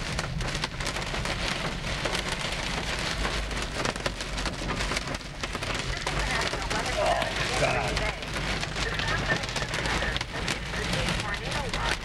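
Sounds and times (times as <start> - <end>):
hail pelting vehicle roof: 0.0 - 12.0.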